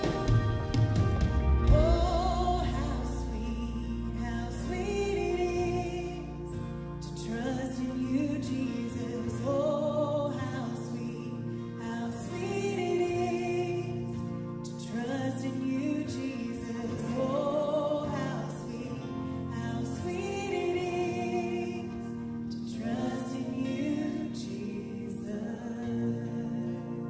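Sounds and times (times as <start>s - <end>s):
live worship band playing: 0.0s - 27.0s
singers holding long lines: 0.0s - 27.0s.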